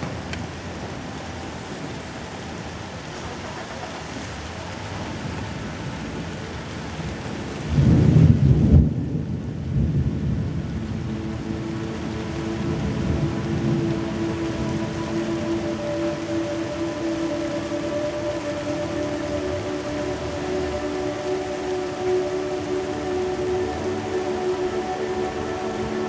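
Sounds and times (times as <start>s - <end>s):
steady rain: 0.0s - 26.0s
thunder rumble: 5.0s - 26.0s.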